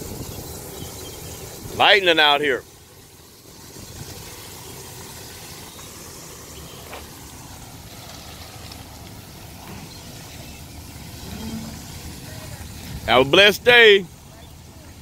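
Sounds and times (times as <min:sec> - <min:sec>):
pickup truck engine running: 0:00.0 - 0:15.0
tyres hissing on wet pavement: 0:00.0 - 0:15.0.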